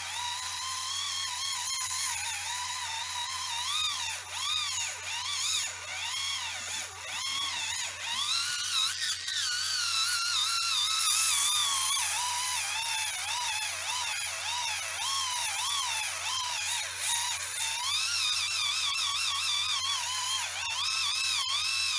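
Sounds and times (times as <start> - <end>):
small roller motor whining: 0.0 - 21.9.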